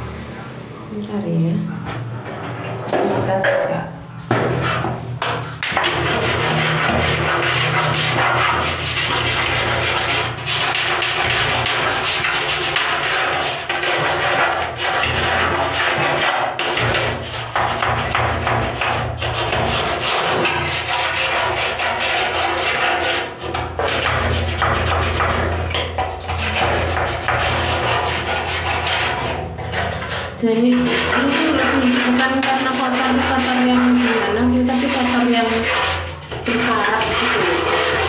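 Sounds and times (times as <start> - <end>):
brush scrubbing metal slats: 4.3 - 38.0.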